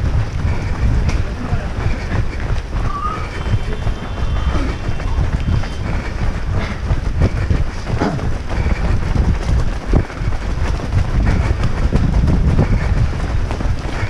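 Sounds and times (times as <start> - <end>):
footfalls and camera jolts: 0.0 - 14.0
wind buffeting microphone: 0.0 - 14.0.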